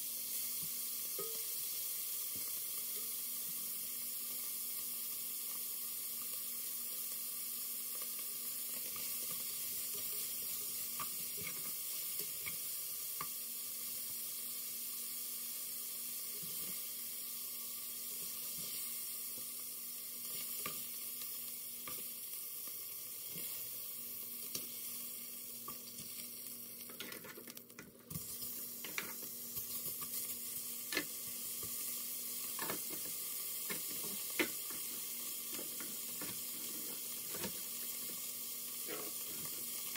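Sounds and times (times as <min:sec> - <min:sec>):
meat sizzling in a pot: 0:00.0 - 0:39.9.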